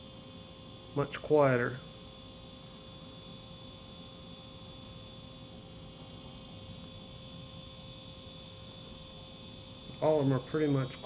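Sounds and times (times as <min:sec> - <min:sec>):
drone motor humming with whine: 0:00.0 - 0:11.0.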